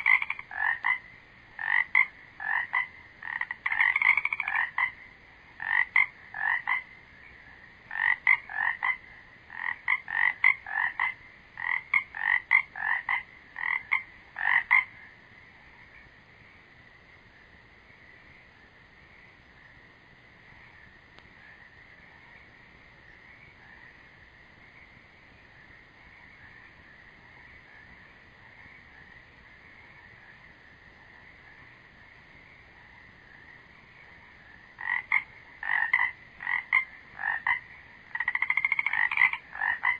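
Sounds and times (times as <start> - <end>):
faint frog chorus: 0.0 - 39.9
frogs croaking: 0.0 - 39.9.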